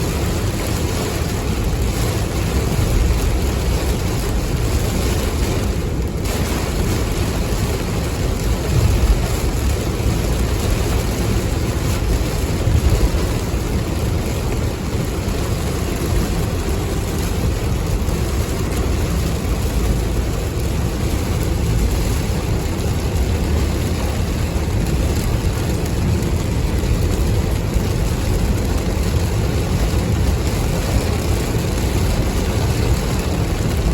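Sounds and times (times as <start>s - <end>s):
car engine rumble: 0.0s - 33.9s
steady rain: 0.0s - 33.9s.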